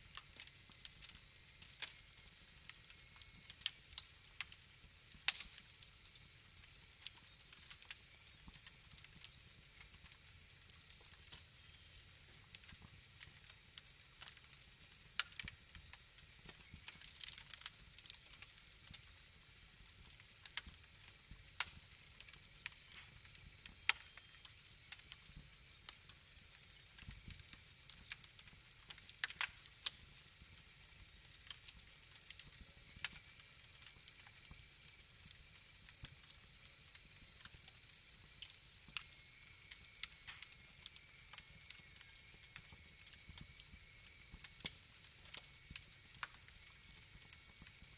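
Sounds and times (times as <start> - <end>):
faint steady hiss: 0.0 - 47.9
wood fire crackling and popping: 0.0 - 47.9.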